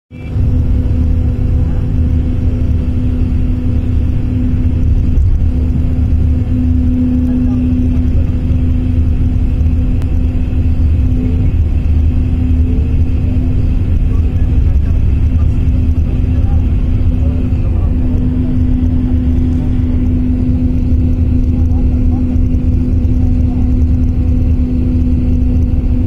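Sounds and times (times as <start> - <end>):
vehicle engine and tyre rumble: 0.1 - 26.0.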